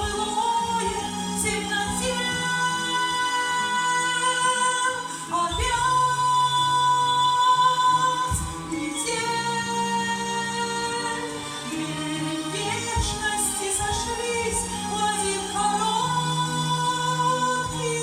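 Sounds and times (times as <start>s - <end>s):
women singing long held notes: 0.0s - 18.0s.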